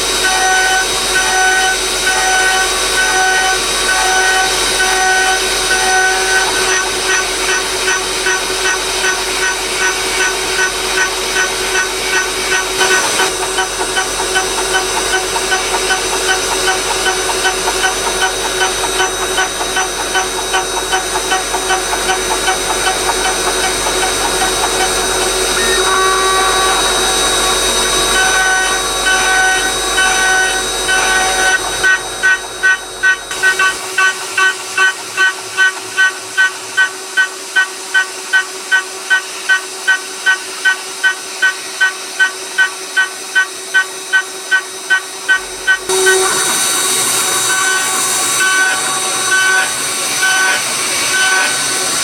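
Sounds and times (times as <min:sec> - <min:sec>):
end mill cutting: 0:00.0 - 0:39.8, 0:44.8 - 0:52.0
router spindle whine: 0:00.0 - 0:52.0.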